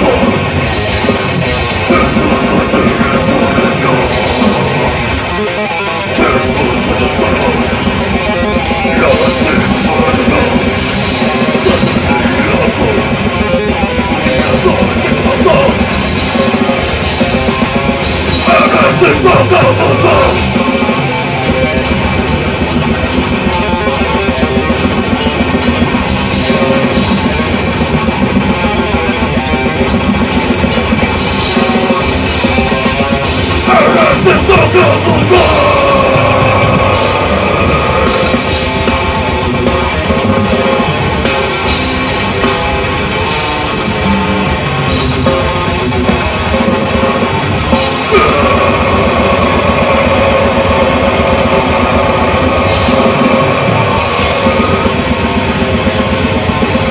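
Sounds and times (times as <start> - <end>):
heavy metal band playing: 0.0 - 56.9.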